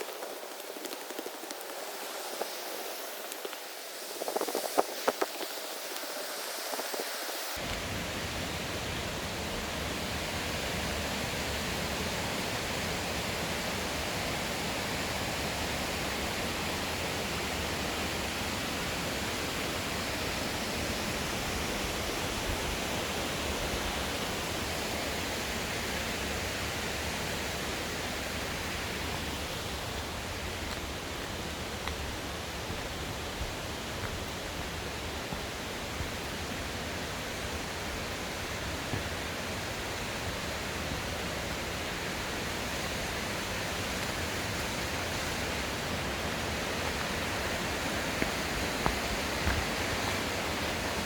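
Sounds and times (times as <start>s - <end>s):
stream water rushing: 0.0s - 51.0s.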